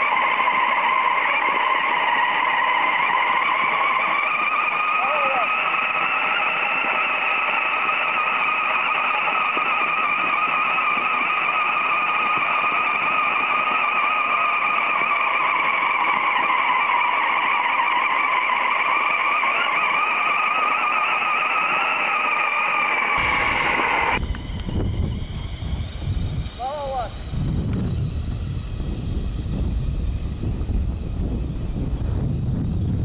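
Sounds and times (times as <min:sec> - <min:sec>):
wind rumble on microphone: 0:00.0 - 0:17.7, 0:23.2 - 0:33.0
electric motors and gears whining: 0:00.0 - 0:33.0.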